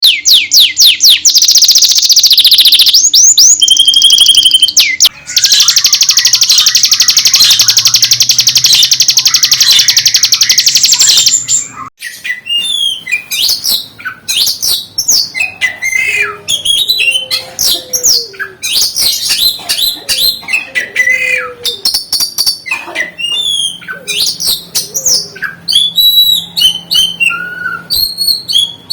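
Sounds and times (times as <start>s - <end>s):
songbirds singing: 0.0s - 28.9s.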